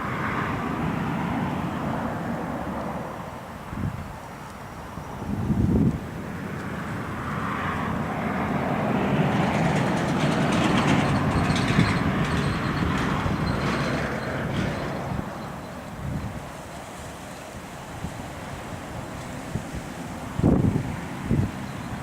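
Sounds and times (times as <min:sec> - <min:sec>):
wind buffeting microphone: 0:00.0 - 0:16.7, 0:17.6 - 0:22.0
airliner engines rushing: 0:00.0 - 0:22.0.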